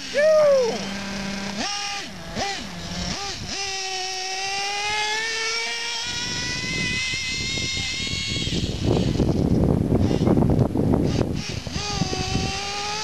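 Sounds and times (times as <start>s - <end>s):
small rc car engine buzzing: 0.0s - 13.0s.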